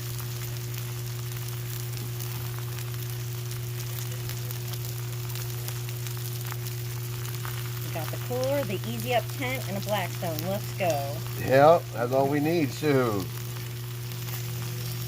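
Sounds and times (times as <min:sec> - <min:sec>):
meat sizzling on a griddle: 0:00.0 - 0:15.0
steady low hum: 0:00.0 - 0:15.0.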